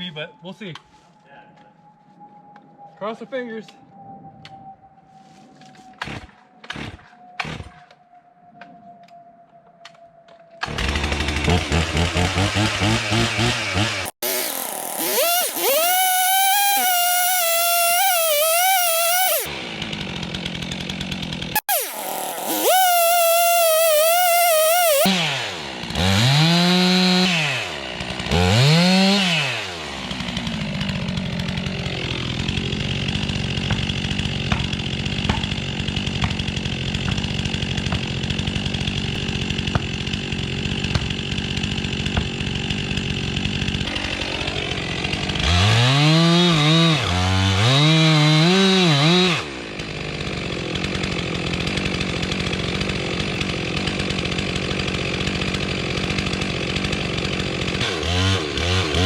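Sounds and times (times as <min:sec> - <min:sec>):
chainsaw revving: 0:10.6 - 0:59.0.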